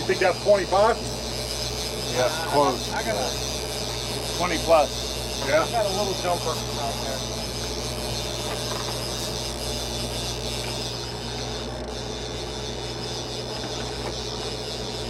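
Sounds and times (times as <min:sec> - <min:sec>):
boat engine humming: 0:00.0 - 0:15.0
fishing reel ratcheting whir: 0:00.0 - 0:15.0.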